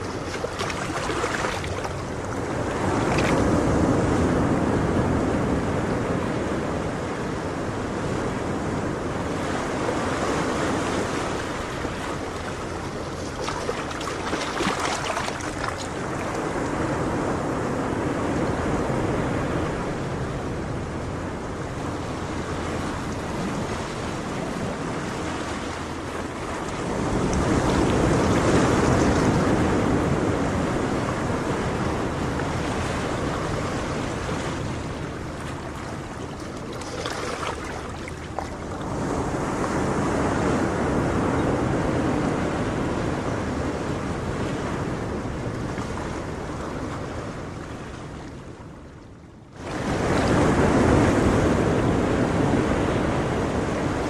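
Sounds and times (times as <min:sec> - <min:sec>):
ocean waves washing on shore: 0:00.0 - 0:54.0.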